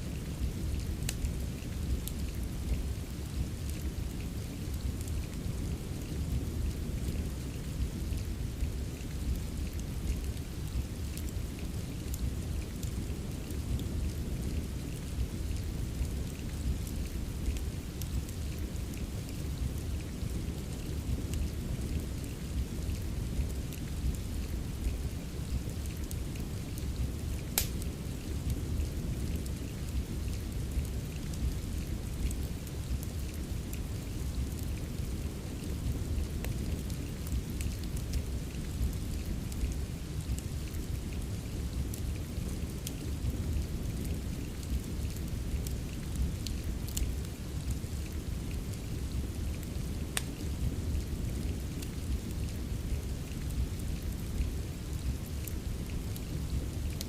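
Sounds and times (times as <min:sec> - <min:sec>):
constant low rumble: 0:00.0 - 0:57.0
steady rain: 0:00.0 - 0:57.0
wood fire crackling and popping: 0:00.1 - 0:57.0.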